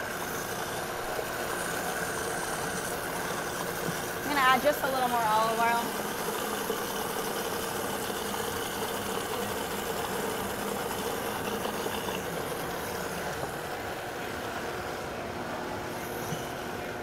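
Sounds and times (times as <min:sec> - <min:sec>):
blender motor running: 0:00.0 - 0:15.2.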